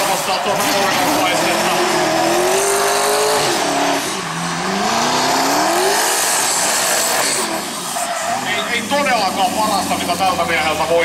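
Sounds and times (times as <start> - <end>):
car engine at high revs: 0.0 - 11.0
tyres hissing and squealing: 0.0 - 11.0.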